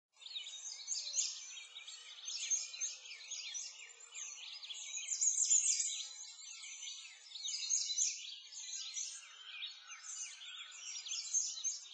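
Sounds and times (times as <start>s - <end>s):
birds chirping and singing: 0.2s - 11.9s.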